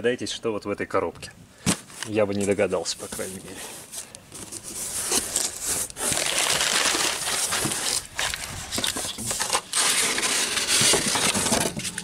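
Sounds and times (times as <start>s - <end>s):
packing paper crinkling and rustling: 1.6s - 12.0s.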